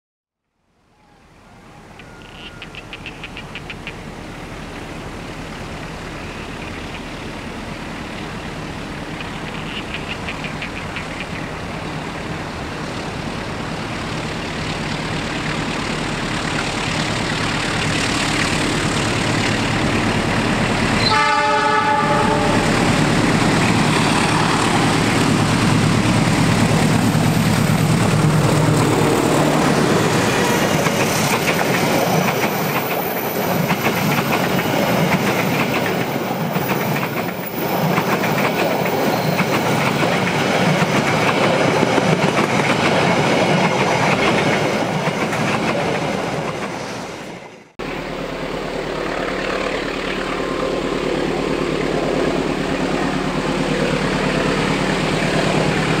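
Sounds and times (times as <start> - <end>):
train rumble approaching: 0.9 - 56.0.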